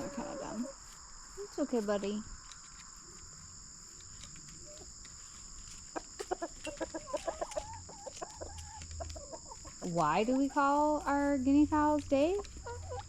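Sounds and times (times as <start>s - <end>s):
chickens clucking: 0.0s - 1.4s, 2.4s - 13.0s.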